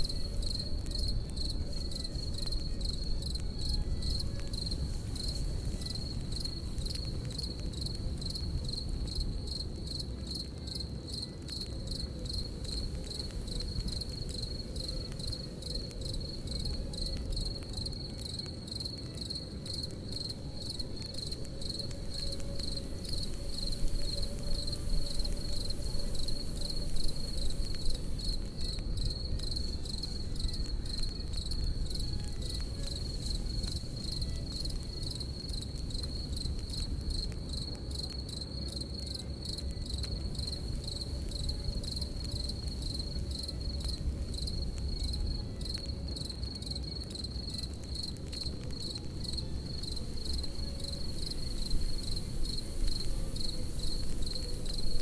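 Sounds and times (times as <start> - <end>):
campfire crackling: 0.0 - 55.0
crickets chirping: 0.0 - 55.0.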